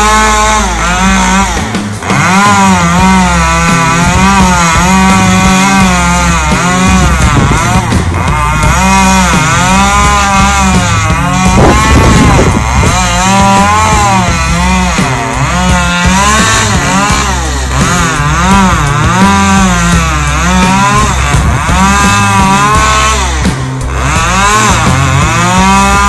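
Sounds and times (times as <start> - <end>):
chainsaw revving and cutting: 0.0 - 26.0.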